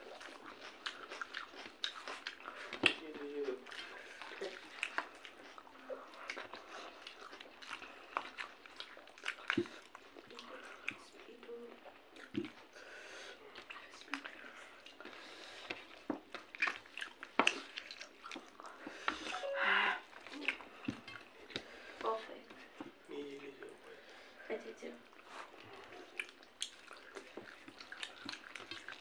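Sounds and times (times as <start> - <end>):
food squelching by hand: 0.0 - 24.0, 25.0 - 29.0
wet chewing and lip-smacking: 0.0 - 24.2, 25.0 - 29.0.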